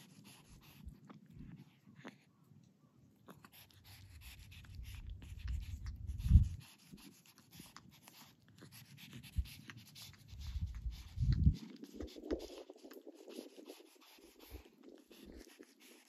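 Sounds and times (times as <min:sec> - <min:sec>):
kitten breathing through nose: 0:00.0 - 0:02.3, 0:03.2 - 0:16.0
kitten lapping milk: 0:00.0 - 0:16.0.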